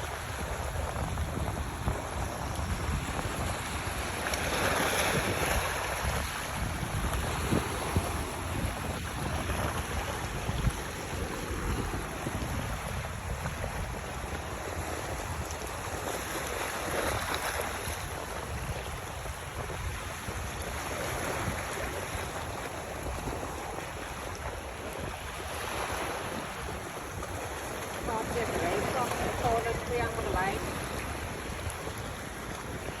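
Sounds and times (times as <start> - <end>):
waves washing: 0.0 - 33.0
wind buffeting microphone: 0.0 - 33.0.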